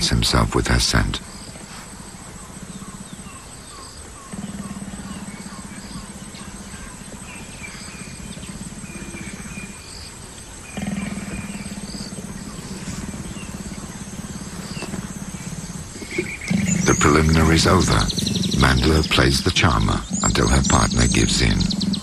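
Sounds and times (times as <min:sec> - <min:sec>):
leopards rasping growl: 0:00.0 - 0:22.0.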